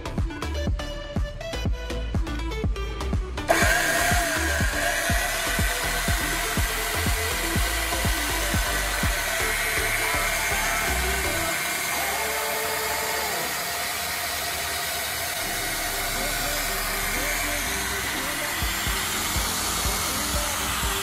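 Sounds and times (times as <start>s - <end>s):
background music with beat: 0.0s - 14.3s, 15.0s - 21.0s
electric planer motor whine: 3.5s - 21.0s.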